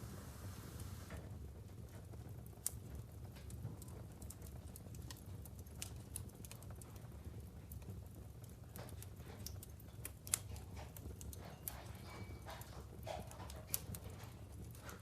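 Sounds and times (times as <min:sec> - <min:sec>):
low rumble of flames: 0:00.0 - 0:15.0
logs crackling and popping: 0:00.7 - 0:15.0.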